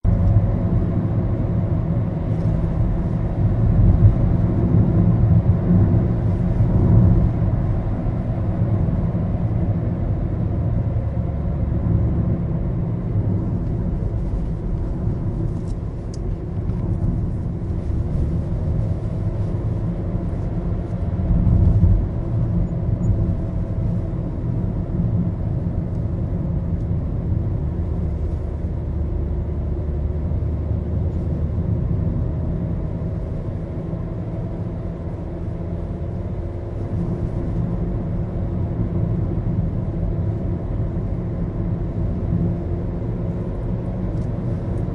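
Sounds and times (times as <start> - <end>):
engine and road noise in car: 0.0 - 44.9.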